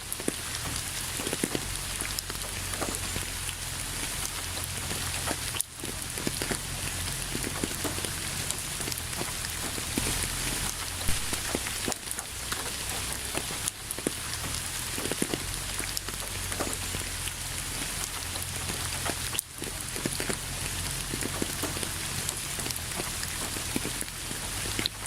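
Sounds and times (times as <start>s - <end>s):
rain hiss: 0.0s - 25.0s
raindrops pattering: 0.0s - 25.0s.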